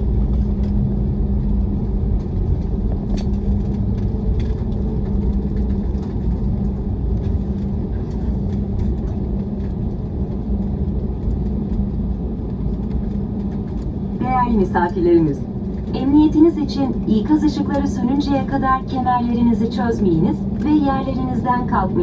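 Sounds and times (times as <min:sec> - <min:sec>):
engine hum: 0:00.0 - 0:22.0
low rumble of wheels: 0:00.0 - 0:22.0.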